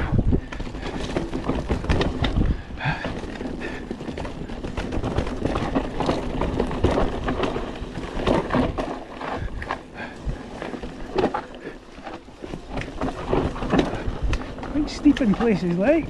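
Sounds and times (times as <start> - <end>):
bike knocking and clattering on rocks: 0.0 - 16.0.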